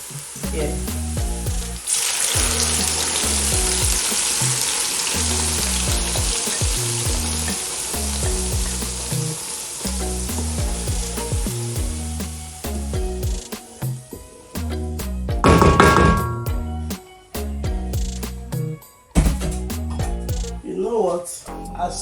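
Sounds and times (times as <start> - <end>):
background music with bass beat: 0.4 - 1.8, 2.4 - 20.7.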